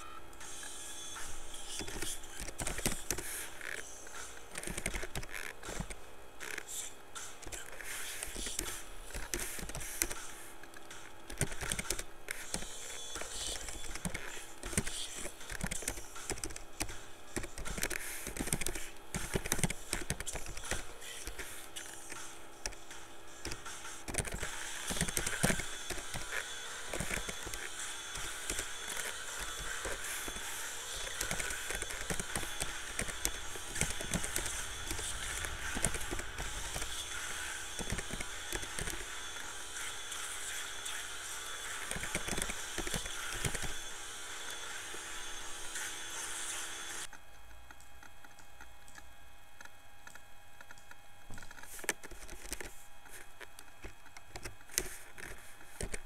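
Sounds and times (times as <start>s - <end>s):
computer keyboard typing: 1.2s - 44.8s, 50.1s - 56.0s.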